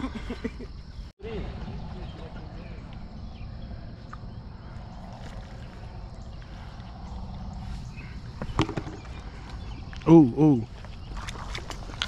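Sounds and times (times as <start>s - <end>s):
wind rumble on microphone: 1.2s - 12.0s.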